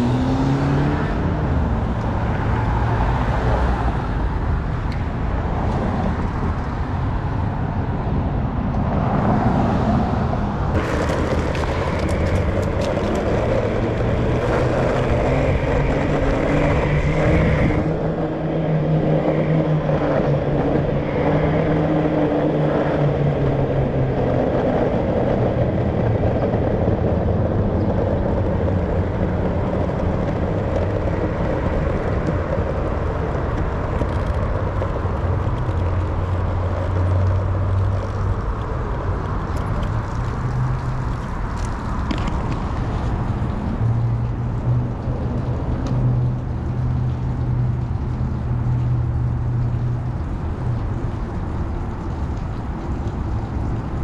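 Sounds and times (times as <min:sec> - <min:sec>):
car engine hum: 0:00.0 - 0:54.0
road traffic: 0:00.0 - 0:54.0.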